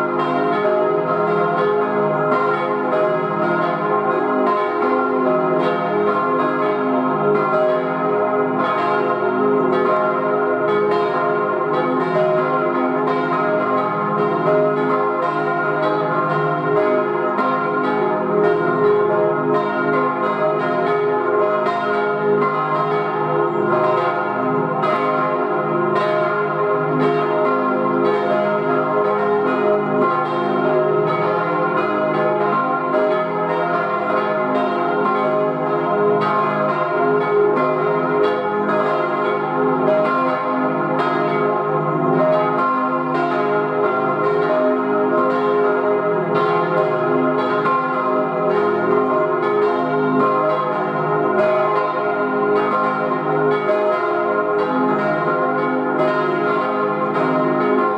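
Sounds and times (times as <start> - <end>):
church bells pealing: 0.0 - 57.9.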